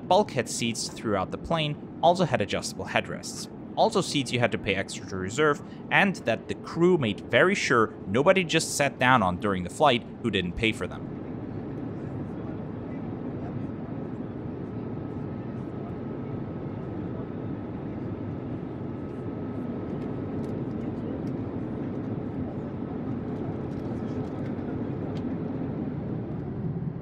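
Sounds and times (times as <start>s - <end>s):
airliner engines rumbling: 0.0s - 27.0s
faint steady whine: 0.0s - 27.0s.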